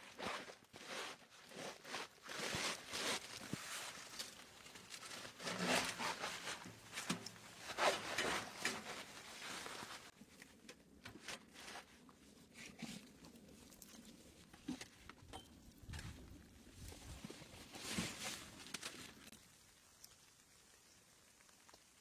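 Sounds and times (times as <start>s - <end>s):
rustling and crunching handling: 0.0s - 20.0s.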